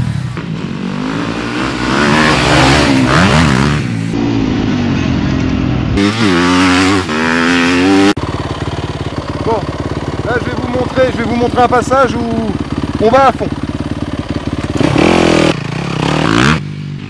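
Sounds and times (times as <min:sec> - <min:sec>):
motocross engine revving: 0:00.0 - 0:17.0.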